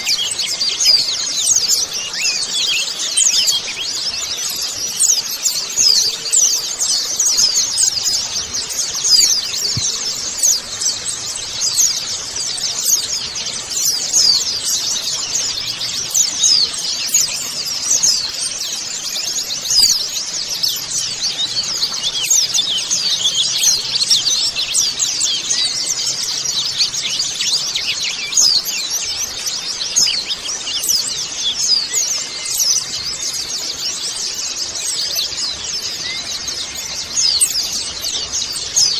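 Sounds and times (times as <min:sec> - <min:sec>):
flock of birds twittering: 0:00.0 - 0:38.9.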